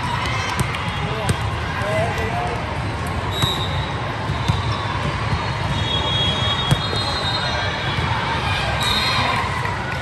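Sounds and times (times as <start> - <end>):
crowd and player noise: 0.0 - 10.0.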